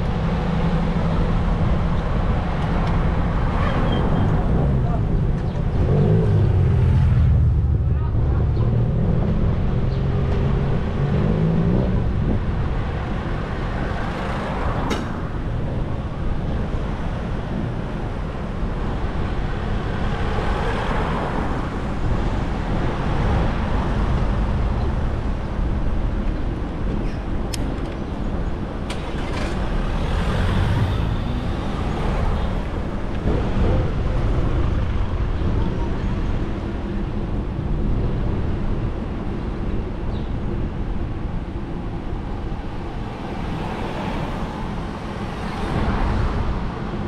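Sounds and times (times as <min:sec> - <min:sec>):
traffic low rumble: 0:00.0 - 0:47.0
vehicles passing: 0:00.0 - 0:47.0.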